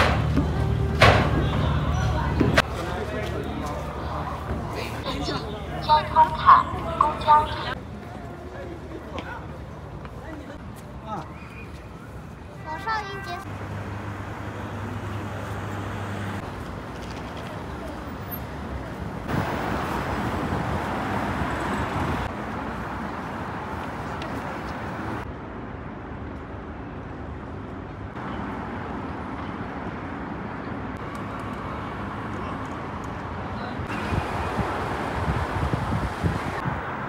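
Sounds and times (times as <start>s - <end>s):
city traffic noise: 0.0s - 37.0s.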